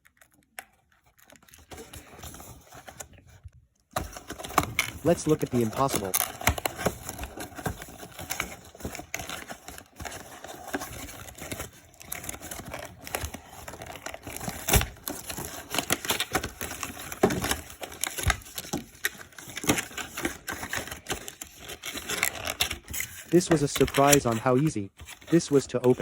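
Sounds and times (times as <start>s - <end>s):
packaging crinkling: 4.0s - 26.0s.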